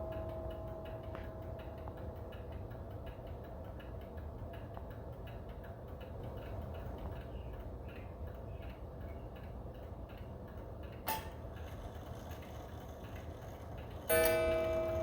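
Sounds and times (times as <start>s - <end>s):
mantel clock ticking: 0.0s - 15.0s.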